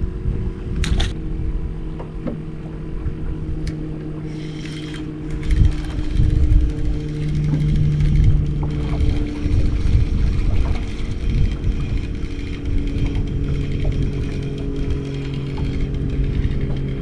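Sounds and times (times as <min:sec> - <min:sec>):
boat motor humming: 0:00.0 - 0:17.0
wind rumble on microphone: 0:00.0 - 0:17.0.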